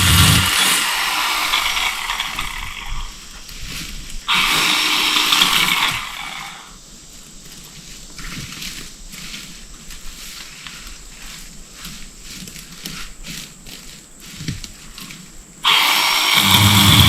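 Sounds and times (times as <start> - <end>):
chainsaw cutting brush: 0.0 - 6.8, 7.4 - 17.0.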